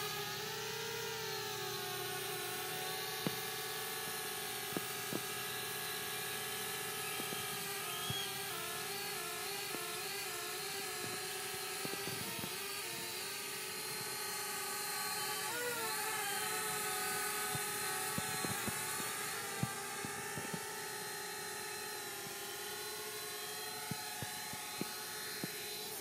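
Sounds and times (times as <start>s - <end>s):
drone propellers whirring: 0.0s - 26.0s.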